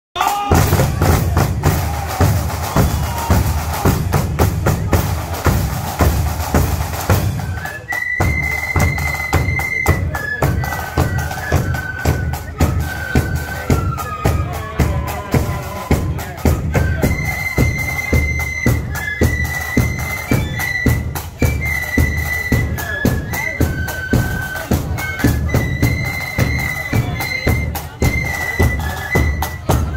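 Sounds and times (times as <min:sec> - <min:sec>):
drums beating a march: 0:00.2 - 0:29.9
flutes playing a melody: 0:00.2 - 0:29.9.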